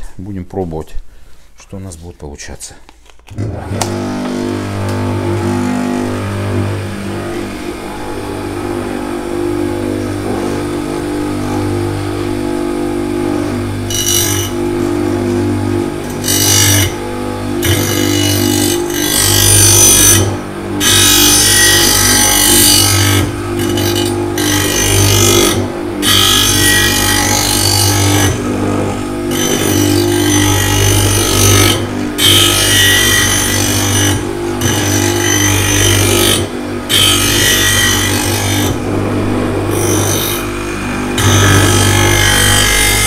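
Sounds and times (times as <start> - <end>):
electric motor humming: 3.3 - 43.0
grinding wheel grinding metal: 3.4 - 43.0.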